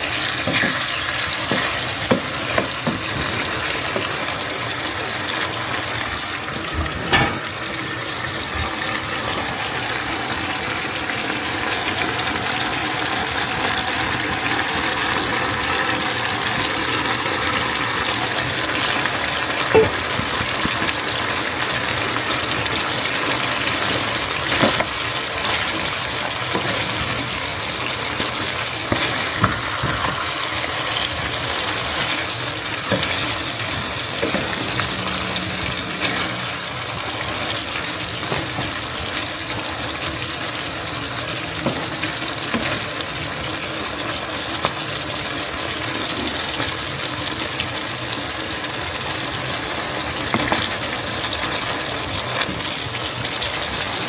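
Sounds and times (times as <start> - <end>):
hissing cooking noise: 0.0 - 54.0.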